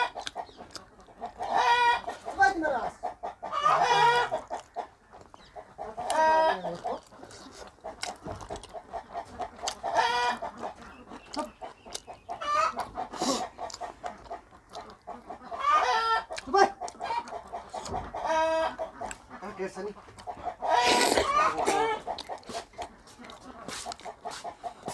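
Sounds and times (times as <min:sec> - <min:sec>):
clicks and smacks of eating: 0:00.0 - 0:02.3, 0:04.3 - 0:15.6, 0:16.2 - 0:18.2, 0:18.8 - 0:19.4, 0:20.0 - 0:24.9
chickens clucking and cackling: 0:00.0 - 0:24.9.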